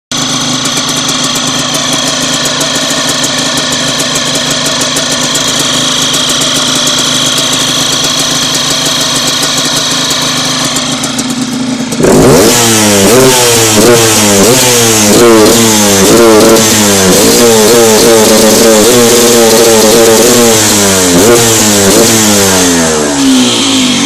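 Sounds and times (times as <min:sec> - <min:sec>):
engine revving: 0:00.1 - 0:24.0
two-stroke engine idling: 0:00.1 - 0:24.0.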